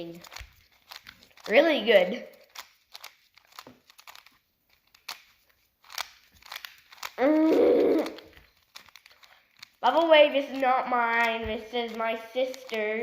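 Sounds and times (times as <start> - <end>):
plastic clicks and crinkles: 0.0 - 13.0.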